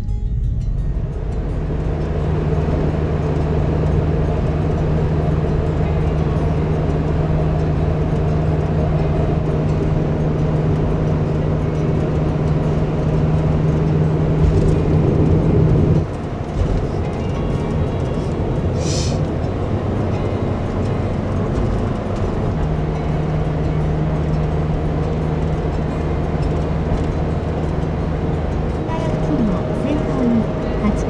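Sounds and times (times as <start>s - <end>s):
low engine drone: 0.0s - 31.0s
road and wind noise: 0.0s - 31.0s.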